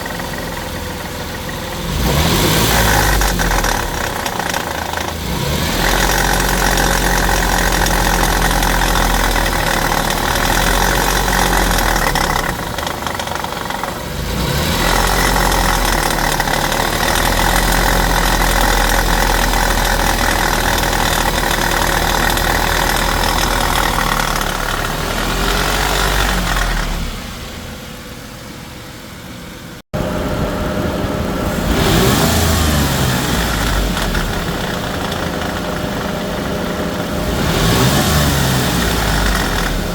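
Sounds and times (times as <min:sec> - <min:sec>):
engine revving: 0:00.0 - 0:27.7, 0:30.0 - 0:39.9.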